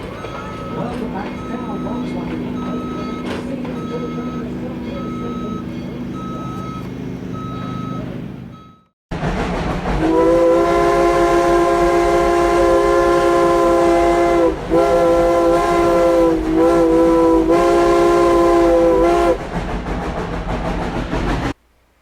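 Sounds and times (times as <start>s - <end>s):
steam locomotive chime whistle: 0.0s - 8.9s, 10.0s - 19.4s
locomotive rumble: 0.0s - 21.6s.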